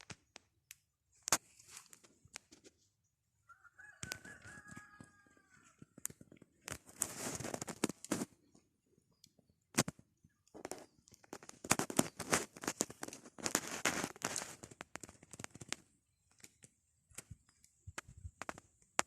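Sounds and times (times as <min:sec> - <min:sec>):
crinkling handling noise: 0:00.0 - 0:02.9, 0:04.0 - 0:08.6, 0:09.7 - 0:19.0.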